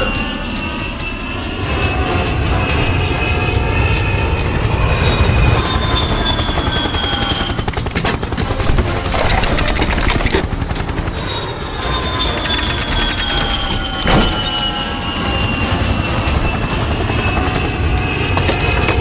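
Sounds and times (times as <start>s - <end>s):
helicopter rotor beating: 0.4s - 19.0s.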